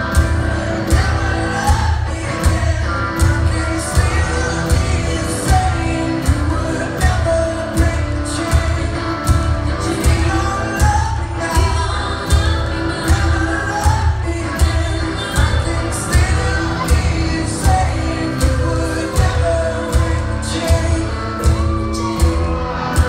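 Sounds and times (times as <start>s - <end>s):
guitar: 0.0s - 23.0s
man singing: 0.0s - 23.0s
steady drum beat: 0.0s - 23.0s.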